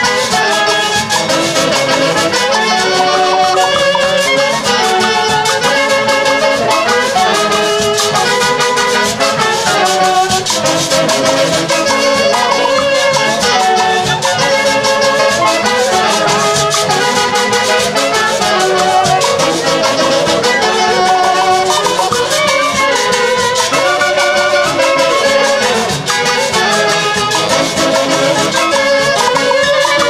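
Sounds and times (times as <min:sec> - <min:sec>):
saxophone section melody: 0:00.0 - 0:30.0.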